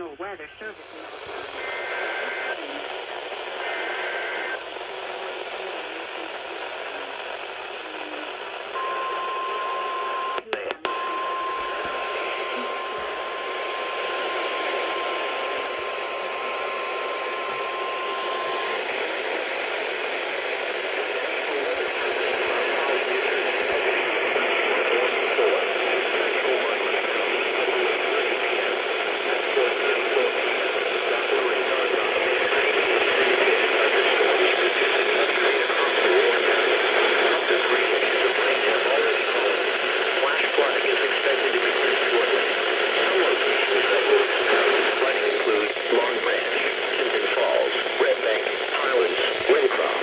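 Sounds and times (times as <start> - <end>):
radio static hiss: 0.0 - 50.0.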